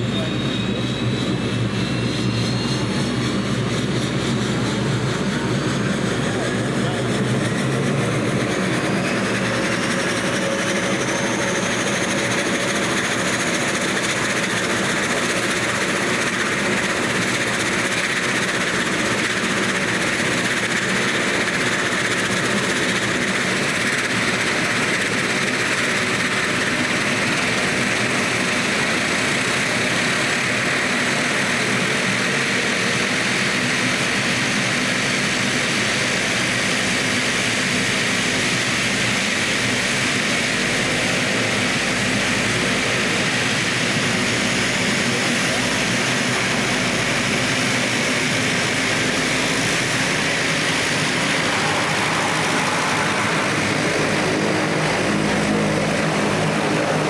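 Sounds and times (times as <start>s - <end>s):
engine whine: 0.0s - 57.0s
turboprop engines running: 0.0s - 57.0s.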